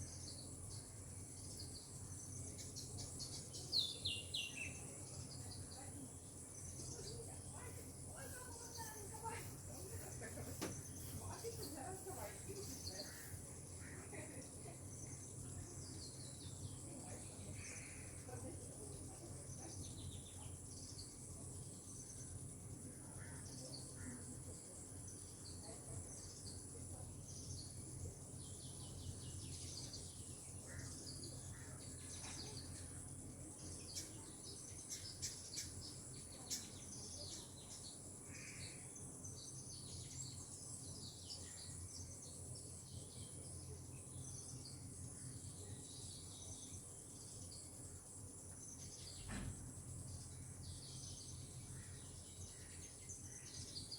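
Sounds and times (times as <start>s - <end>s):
bird chirps and calls: 0.0s - 21.2s, 22.0s - 53.9s
high steady insect drone: 0.0s - 53.9s.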